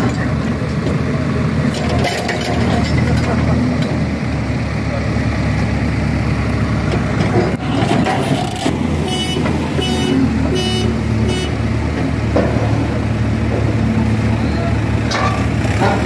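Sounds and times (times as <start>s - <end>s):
diesel engines running under load: 0.0s - 16.0s.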